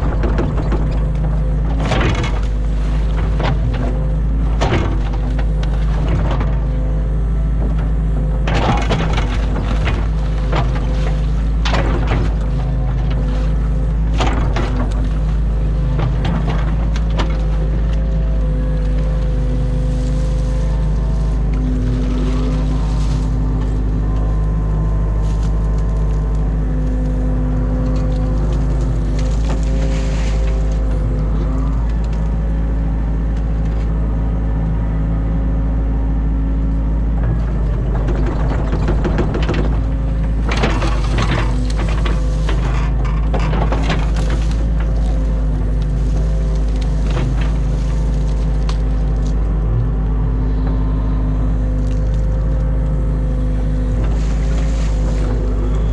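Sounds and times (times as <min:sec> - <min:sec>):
excavator diesel engine running: 0:00.0 - 0:55.9
hydraulic whine: 0:00.0 - 0:55.9.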